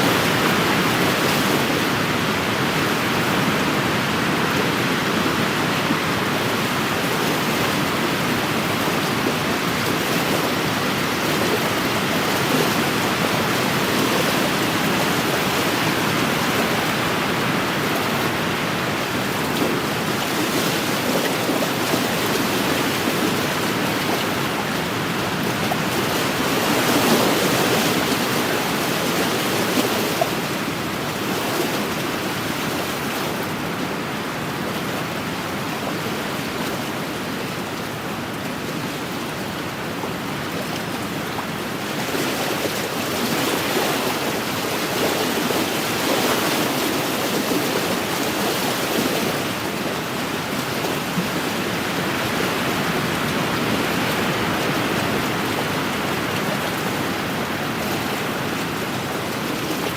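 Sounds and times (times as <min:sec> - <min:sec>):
waves washing against shore: 0:00.0 - 0:59.9.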